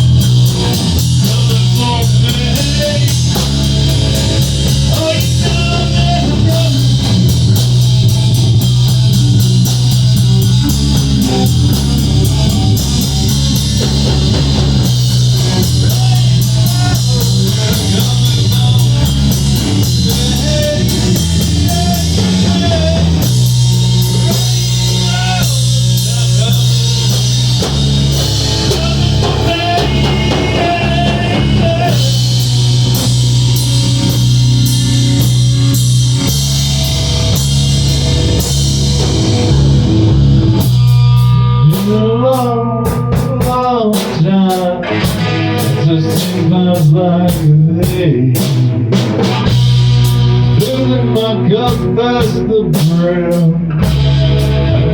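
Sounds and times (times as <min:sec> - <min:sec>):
bass guitar: 0:00.0 - 0:54.9
drum kit: 0:00.0 - 0:54.9
electric guitar: 0:00.0 - 0:54.9.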